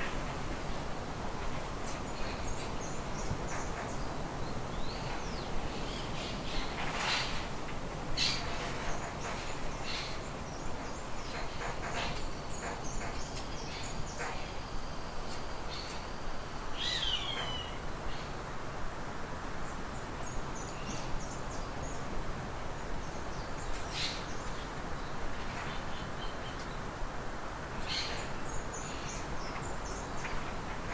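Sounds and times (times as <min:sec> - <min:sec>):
steady background hiss: 0:00.0 - 0:30.9.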